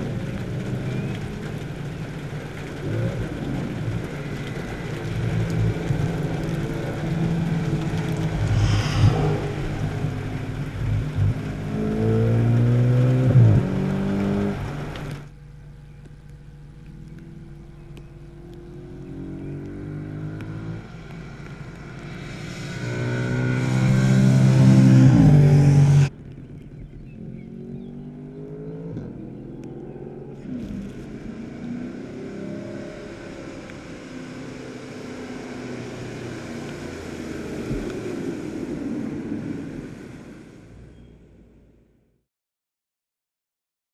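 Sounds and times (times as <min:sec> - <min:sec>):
car engine accelerating hard: 0:00.0 - 0:41.0
distant car engine: 0:00.0 - 0:41.1.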